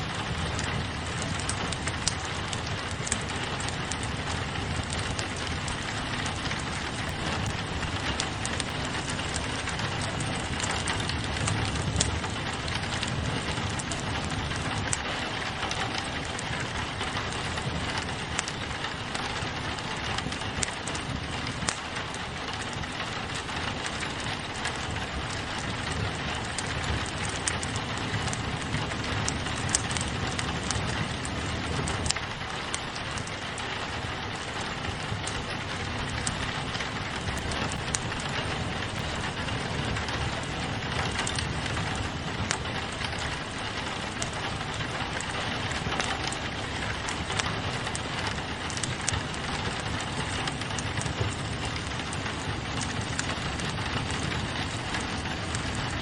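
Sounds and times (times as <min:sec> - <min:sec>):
rain pattering on a window: 0:00.0 - 0:56.0
wood fire crackling: 0:00.0 - 0:56.0.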